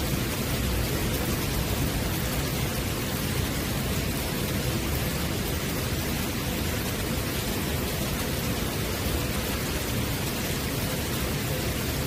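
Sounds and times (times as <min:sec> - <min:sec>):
rain on a wooden deck: 0:00.0 - 0:12.0.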